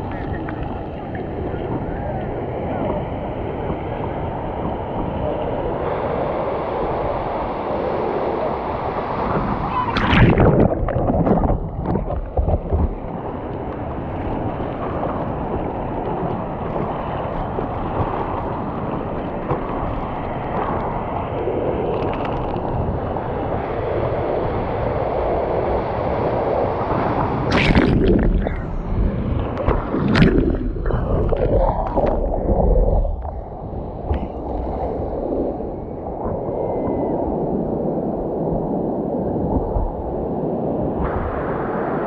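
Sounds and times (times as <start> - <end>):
surf water splashing: 0.0 - 42.0
wind noise: 0.0 - 42.0.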